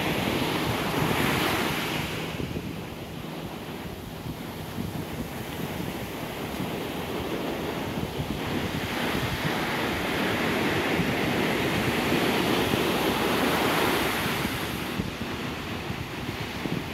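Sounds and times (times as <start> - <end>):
ocean surf on beach: 0.0 - 16.9.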